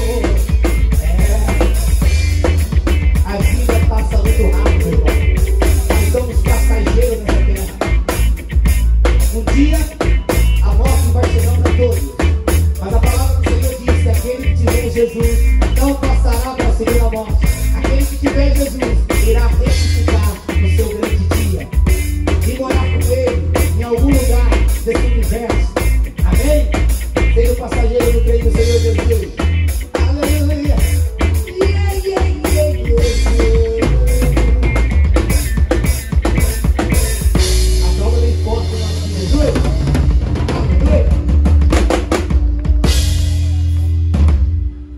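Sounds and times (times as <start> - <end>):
drum kit: 0.0 - 44.9
electric bass line: 0.0 - 44.9
live band music: 0.0 - 44.9.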